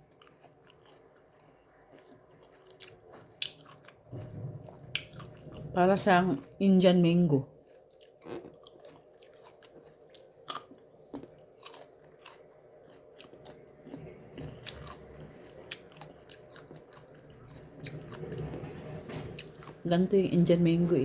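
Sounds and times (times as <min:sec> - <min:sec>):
biting and chewing crisp fruit: 0:00.0 - 0:05.7, 0:07.2 - 0:18.4.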